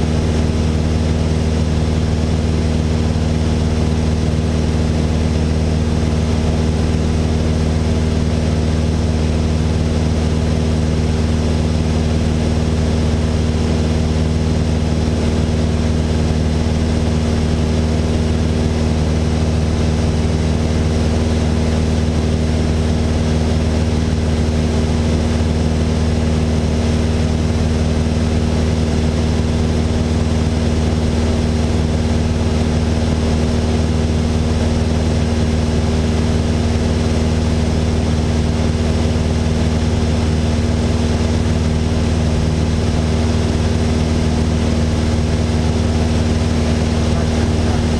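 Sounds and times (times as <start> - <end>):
aircraft engine and propeller drone: 0.0 - 47.9.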